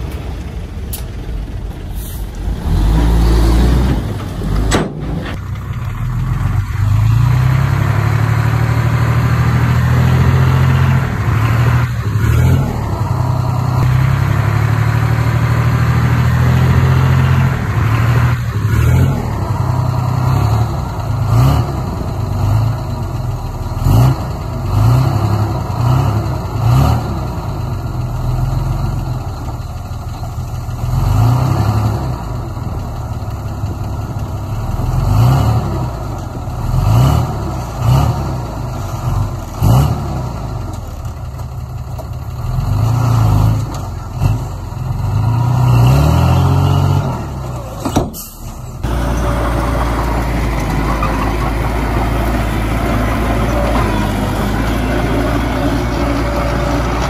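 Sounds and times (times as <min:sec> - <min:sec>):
bulldozer diesel engine revving: 0:00.0 - 0:57.0.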